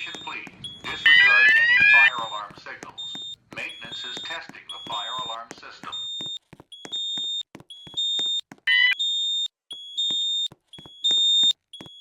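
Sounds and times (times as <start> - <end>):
fire alarm electronic tone: 0.0 - 12.0.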